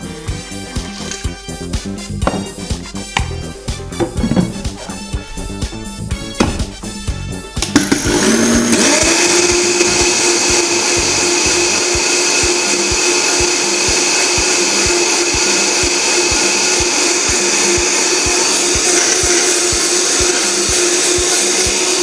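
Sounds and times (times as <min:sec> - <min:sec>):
blender motor whining: 0:03.3 - 0:22.0.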